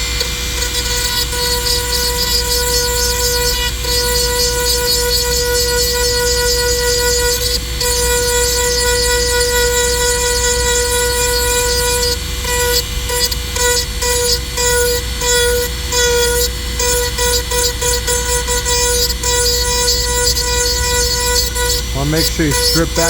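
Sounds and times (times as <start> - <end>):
rotary tool whining: 0.0 - 23.0.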